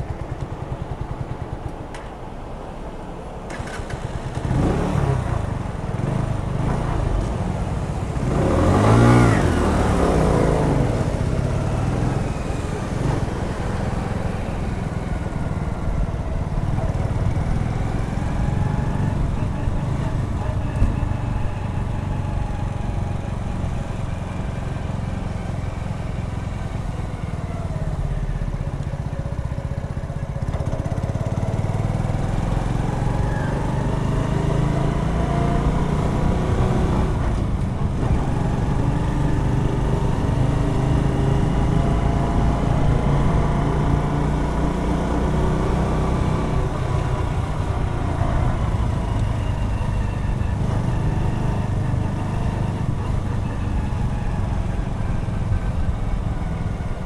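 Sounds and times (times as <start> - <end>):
motorcycle engine revving: 3.5 - 57.0.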